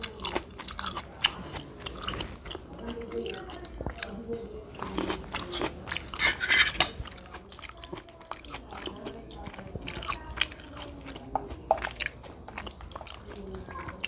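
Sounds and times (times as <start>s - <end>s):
person chewing and smacking: 0.0s - 14.0s.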